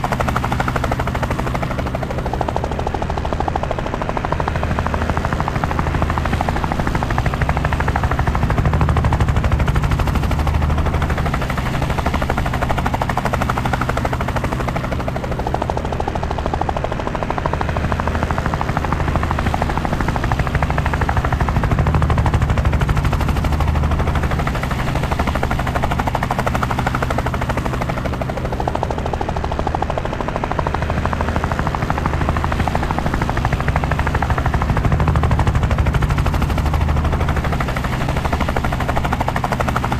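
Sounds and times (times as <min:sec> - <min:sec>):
helicopter engine drone: 0:00.0 - 0:39.9
helicopter rotor blades chopping: 0:00.0 - 0:39.9.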